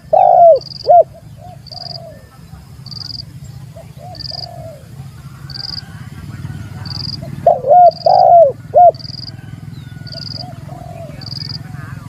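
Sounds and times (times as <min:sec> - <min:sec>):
dove cooing: 0:00.0 - 0:11.9.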